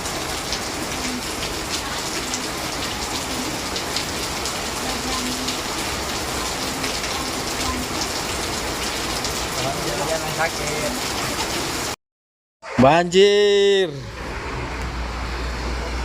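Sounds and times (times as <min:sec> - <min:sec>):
heavy rain pouring: 0:00.0 - 0:12.0, 0:14.1 - 0:16.0.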